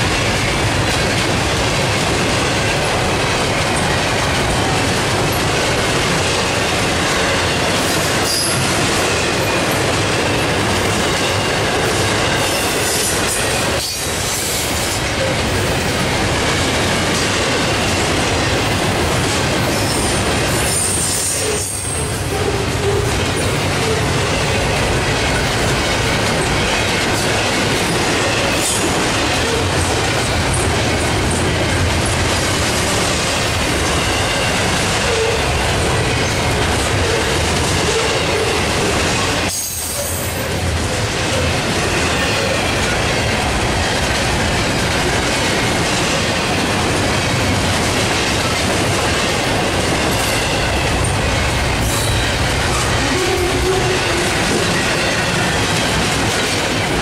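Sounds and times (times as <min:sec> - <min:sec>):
train wheels rushing on rail: 0:00.0 - 0:57.0.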